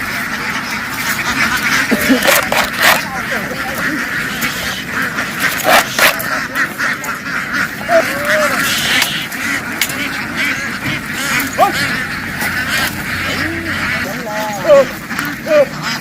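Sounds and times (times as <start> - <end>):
ducks quacking loudly: 0.0 - 16.0.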